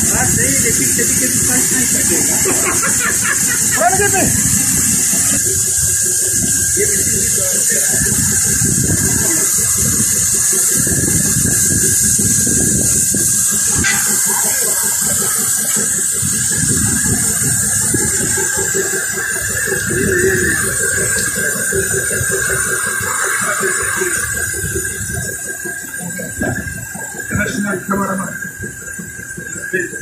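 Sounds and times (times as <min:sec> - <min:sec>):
high machinery whine: 0:00.0 - 0:30.0
low machinery rumble: 0:00.0 - 0:30.0
machinery hiss: 0:00.0 - 0:30.0.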